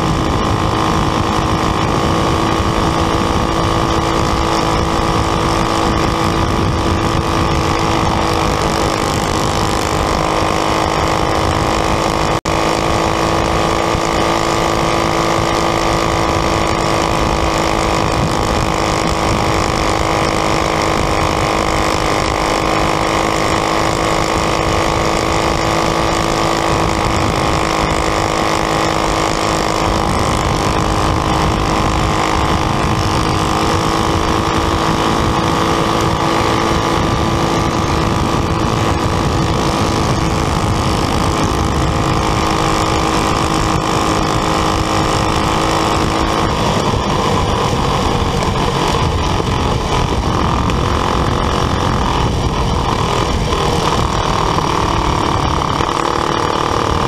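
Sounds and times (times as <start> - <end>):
kart engine at racing speed: 0.0 - 57.0.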